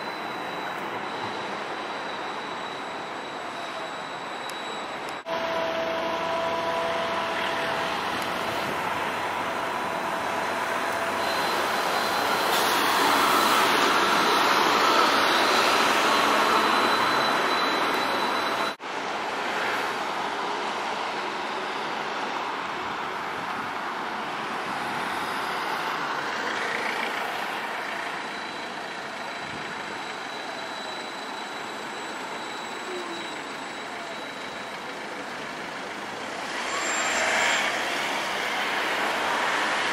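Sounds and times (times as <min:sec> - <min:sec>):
faint high whine: 0:00.0 - 0:18.8, 0:24.8 - 0:39.7
trams and road traffic passing: 0:00.0 - 0:39.9.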